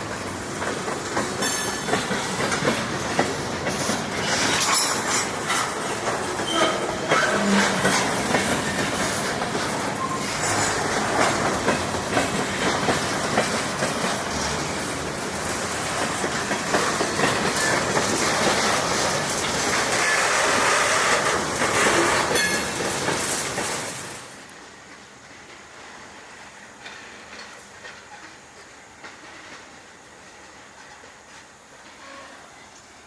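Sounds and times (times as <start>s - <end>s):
train wheels clacking on rails: 0.0s - 33.0s.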